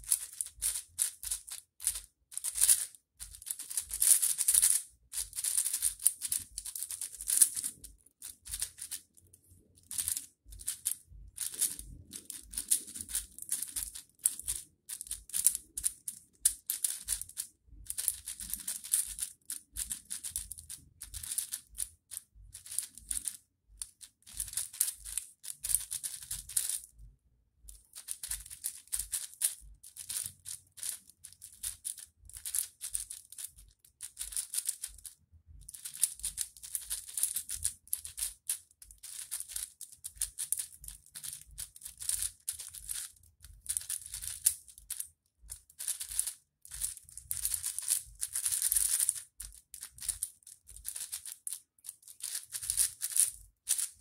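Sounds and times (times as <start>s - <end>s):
puzzle cube clicking and rattling: 0.0s - 27.0s, 27.7s - 54.0s.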